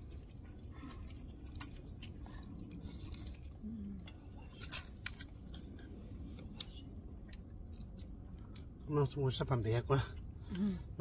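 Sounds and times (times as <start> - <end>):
noodles slurped and chewed: 0.0 - 8.8.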